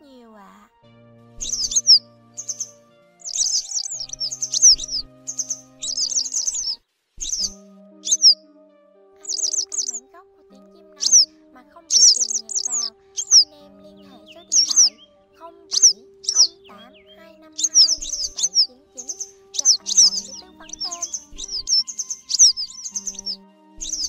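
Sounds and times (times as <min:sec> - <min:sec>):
quiet background music: 0:00.0 - 0:24.0
bird calls sharp and high: 0:01.4 - 0:08.4, 0:09.2 - 0:10.0, 0:11.0 - 0:11.3, 0:11.9 - 0:24.0.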